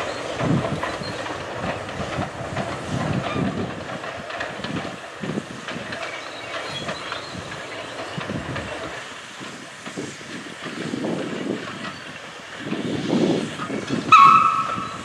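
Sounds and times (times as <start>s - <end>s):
steam locomotive exhaust beats: 0.0s - 15.0s
wagons clattering over rail joints: 0.0s - 15.0s.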